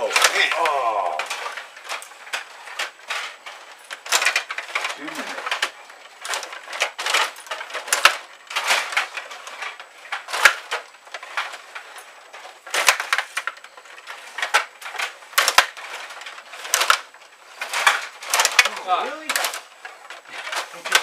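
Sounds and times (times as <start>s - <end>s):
table hockey rods rattling: 0.0s - 21.0s.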